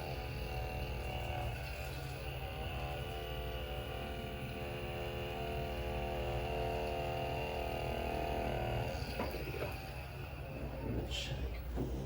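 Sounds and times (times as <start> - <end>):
electric hum with held tones: 0.0 - 12.0.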